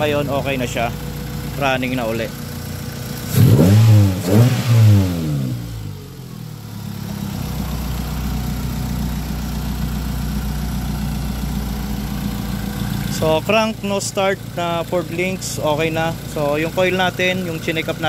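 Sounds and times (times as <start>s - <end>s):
car engine revving and idling: 0.0s - 18.0s.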